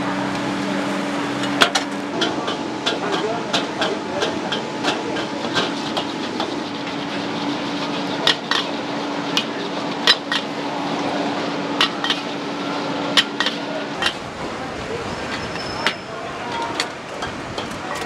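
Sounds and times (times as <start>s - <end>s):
ladle clanking and scraping wok: 0.1s - 18.0s.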